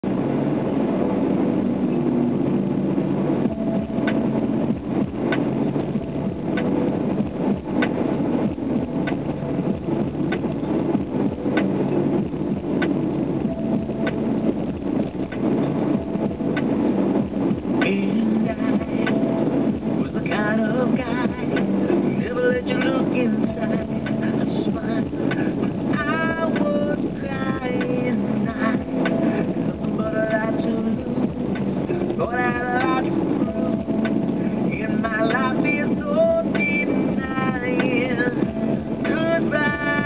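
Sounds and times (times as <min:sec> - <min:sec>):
car engine and road hum: 0:00.0 - 0:40.0.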